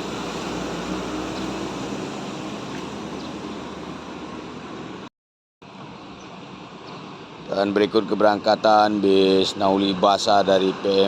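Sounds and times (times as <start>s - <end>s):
bus engine rumbling: 0.0s - 5.1s, 5.8s - 11.0s.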